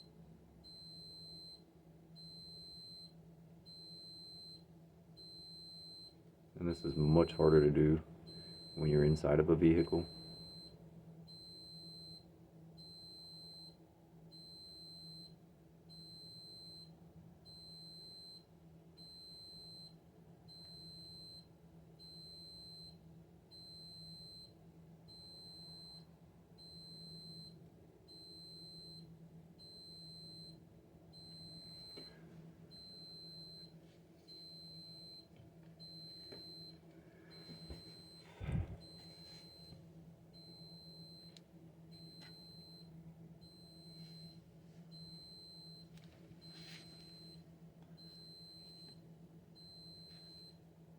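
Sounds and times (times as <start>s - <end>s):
faint low hum: 0.0s - 50.9s.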